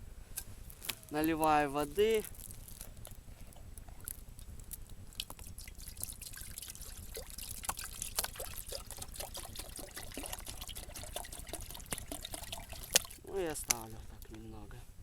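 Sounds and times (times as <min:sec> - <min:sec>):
water pouring into metal tin: 0:01.1 - 0:13.7.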